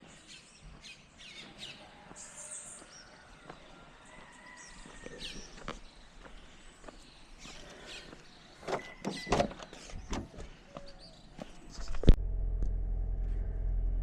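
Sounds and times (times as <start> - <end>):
faint birds chirping: 0.0 - 12.1.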